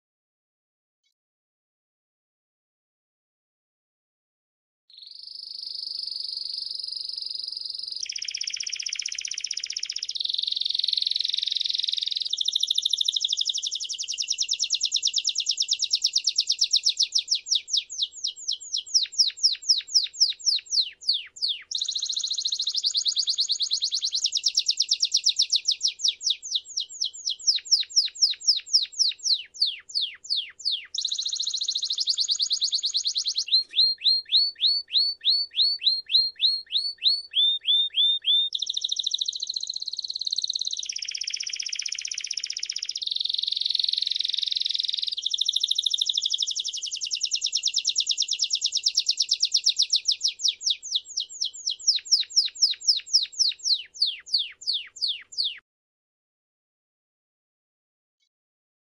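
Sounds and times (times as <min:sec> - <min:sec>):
canary singing: 0:04.9 - 0:55.6.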